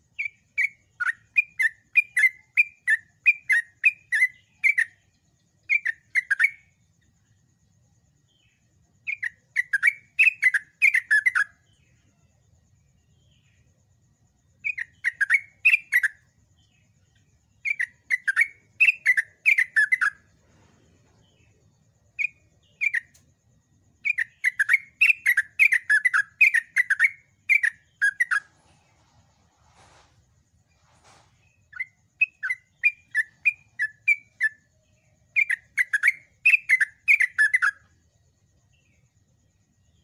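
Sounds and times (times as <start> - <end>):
bird chattering song: 0.0 - 6.8, 8.2 - 12.2, 14.6 - 23.3, 23.9 - 29.8, 30.7 - 38.0.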